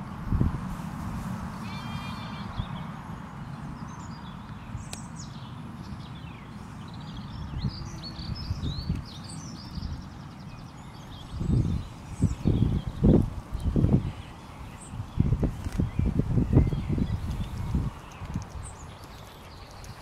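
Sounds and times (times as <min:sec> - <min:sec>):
low outdoor rumble: 0:00.0 - 0:20.0
small birds chirping: 0:01.6 - 0:20.0.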